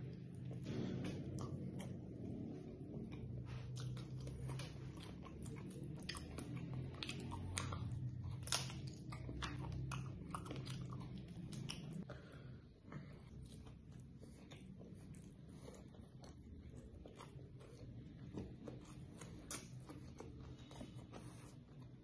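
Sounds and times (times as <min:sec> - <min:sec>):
chewing chicken: 0:00.0 - 0:12.1, 0:12.9 - 0:22.0
low hum: 0:00.0 - 0:21.2.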